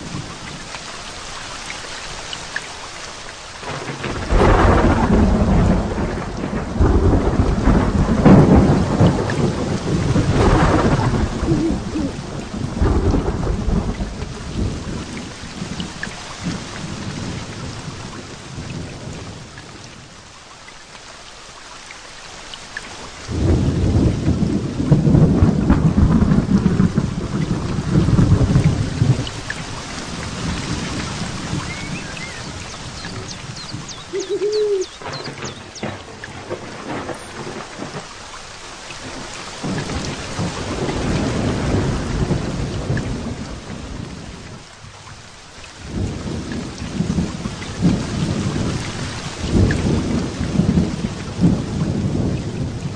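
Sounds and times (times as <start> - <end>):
heavy rain falling: 0.0 - 52.9
rolling thunder: 3.6 - 19.5, 23.3 - 38.1, 39.0 - 44.6, 45.8 - 52.9.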